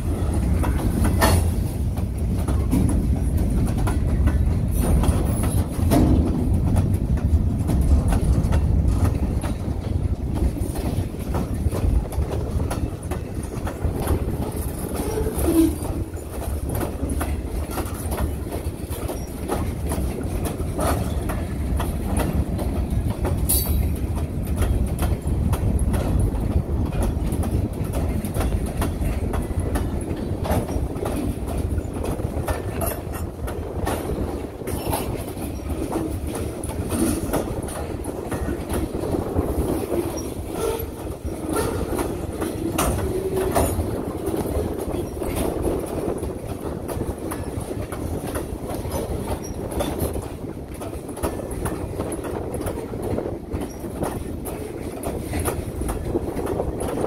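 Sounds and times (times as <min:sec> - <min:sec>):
freight train cars rolling past: 0:00.0 - 0:57.0
wheels clicking over rail joints: 0:00.0 - 0:57.0.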